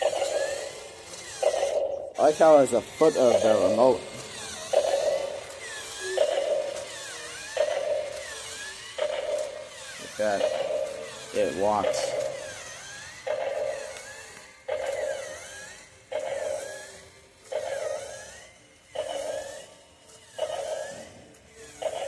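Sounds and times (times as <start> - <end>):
toy robot walking sound: 0.0 - 22.0.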